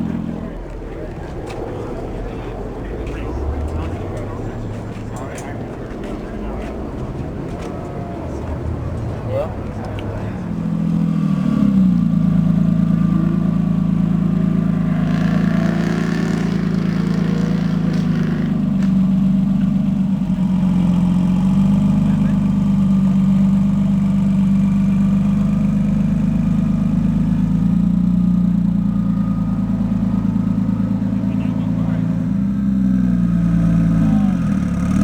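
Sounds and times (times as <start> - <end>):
car engine running at low revs: 0.0 - 35.0.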